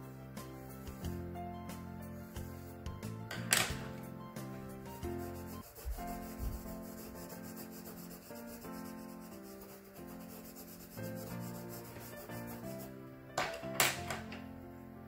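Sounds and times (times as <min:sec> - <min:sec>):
pencil scratching on paper: 0:00.0 - 0:13.0
instrumental background music: 0:00.0 - 0:15.0.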